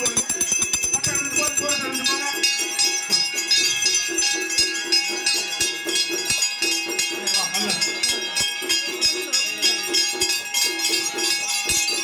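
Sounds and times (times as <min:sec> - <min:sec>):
bells ringing rapidly: 0:00.0 - 0:12.0
festival music: 0:00.0 - 0:12.0
people's voices: 0:00.0 - 0:12.0.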